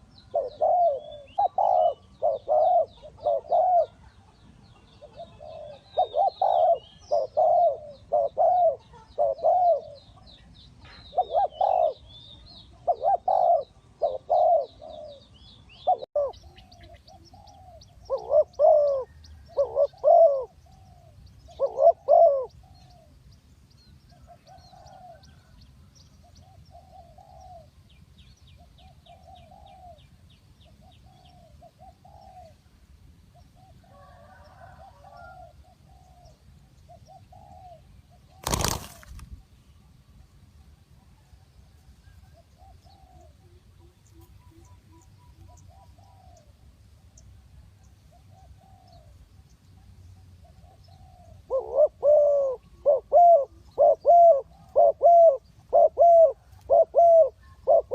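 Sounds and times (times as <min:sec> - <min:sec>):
doves cooing: 0:00.0 - 0:10.4, 0:11.1 - 0:12.1, 0:12.7 - 0:23.1, 0:26.4 - 0:27.8, 0:28.6 - 0:30.2, 0:30.8 - 0:32.7, 0:33.4 - 0:39.3, 0:41.2 - 0:46.7, 0:48.1 - 0:49.2, 0:50.4 - 0:57.9.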